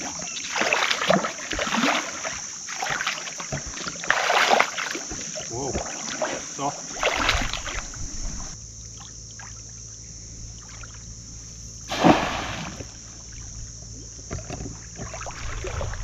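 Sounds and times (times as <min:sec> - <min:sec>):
water sloshing at shoreline: 0:00.0 - 0:16.0.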